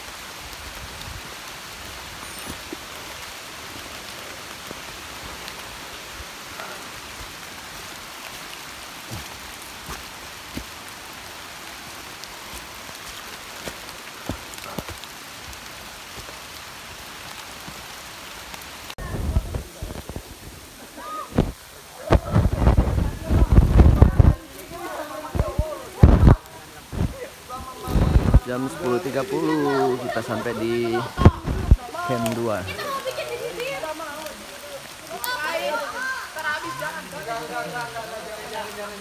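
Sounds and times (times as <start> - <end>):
rain falling on leaves: 0.0 - 39.0.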